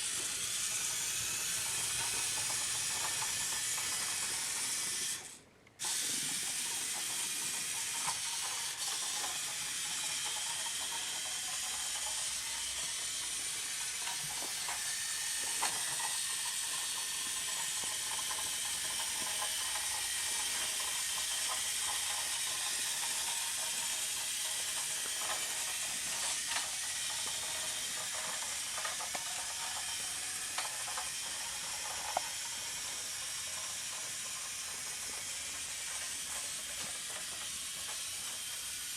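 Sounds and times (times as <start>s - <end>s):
toy truck electric motor whining: 0.0s - 38.9s.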